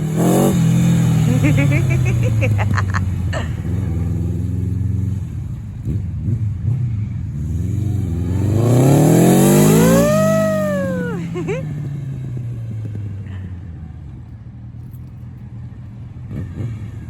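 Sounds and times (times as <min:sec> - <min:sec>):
motorcycle engine revving: 0:00.0 - 0:13.5, 0:16.2 - 0:17.0.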